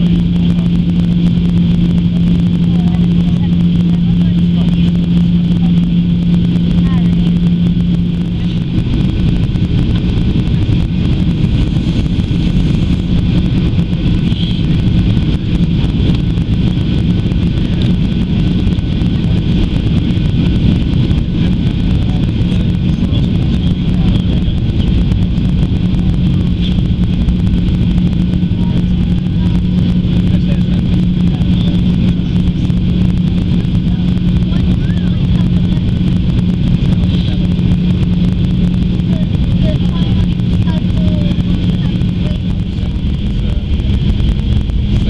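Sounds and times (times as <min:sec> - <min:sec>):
airflow rushing: 0:00.0 - 0:45.0
jet engines running: 0:00.0 - 0:45.0
steady hum: 0:00.0 - 0:45.0.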